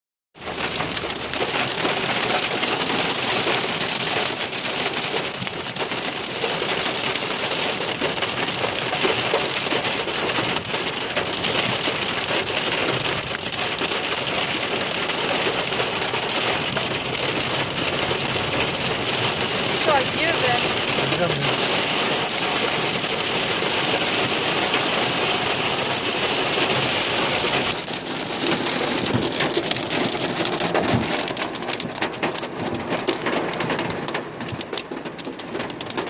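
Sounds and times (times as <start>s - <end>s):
heavy rain and hail on car: 0.4s - 36.0s.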